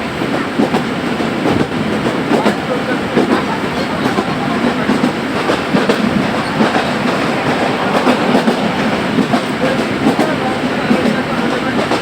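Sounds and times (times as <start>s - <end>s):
train rumbling: 0.0s - 12.0s
wheels clacking over rail joints: 0.0s - 12.0s.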